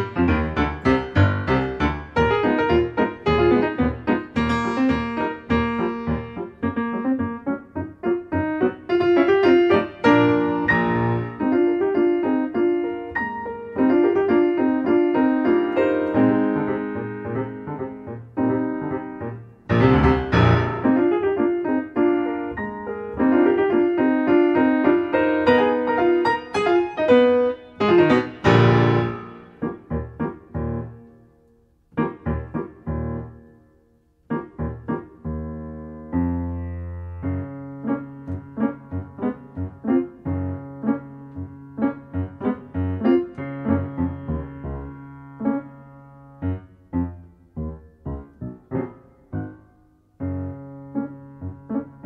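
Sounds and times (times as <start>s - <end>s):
piano music: 0.0s - 52.0s.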